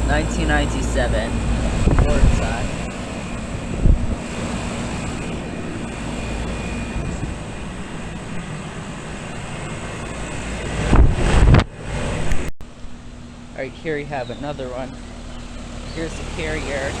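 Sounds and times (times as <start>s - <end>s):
air conditioner unit droning: 0.0s - 17.0s
faint hum: 0.0s - 17.0s
loud rumble: 0.0s - 17.0s.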